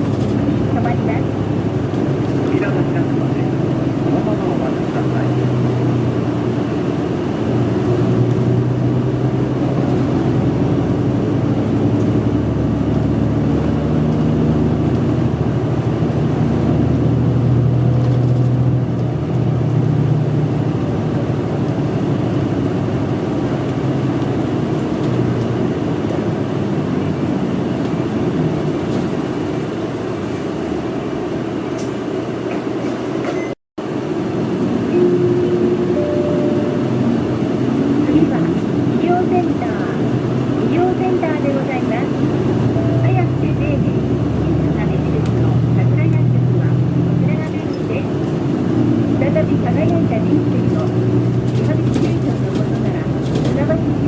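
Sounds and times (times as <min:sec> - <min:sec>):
bus diesel engine droning: 0:00.0 - 0:54.0
road rumble: 0:00.0 - 0:54.0.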